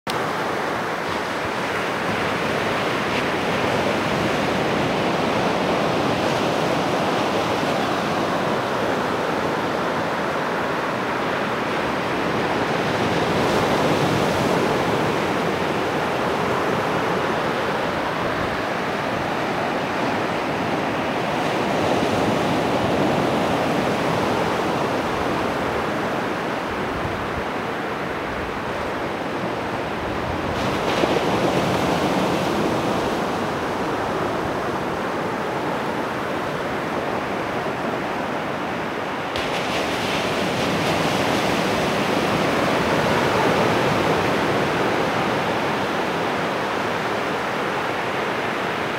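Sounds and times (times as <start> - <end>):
ocean surf breaking: 0.1 - 48.9.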